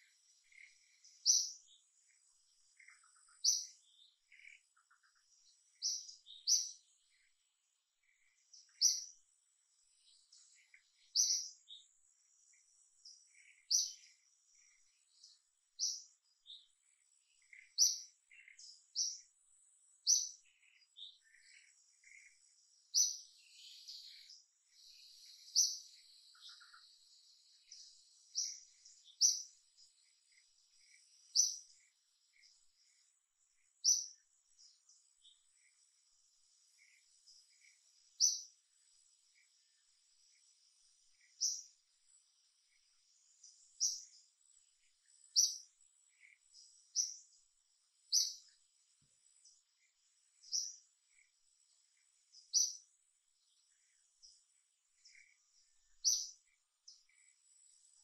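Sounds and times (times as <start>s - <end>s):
faint high insect whine: 0.0s - 58.0s.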